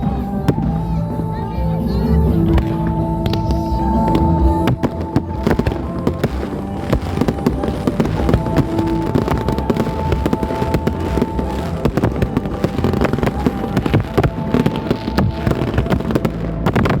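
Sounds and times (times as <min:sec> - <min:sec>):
music playing: 0:00.0 - 0:17.0
crackling and popping: 0:02.5 - 0:17.0.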